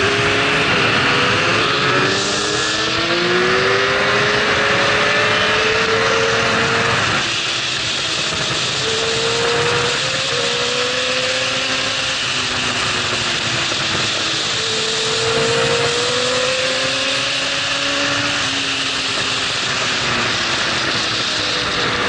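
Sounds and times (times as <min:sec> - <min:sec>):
motorcycle engine at high revs: 0:00.0 - 0:22.0
wind rush: 0:00.0 - 0:22.0.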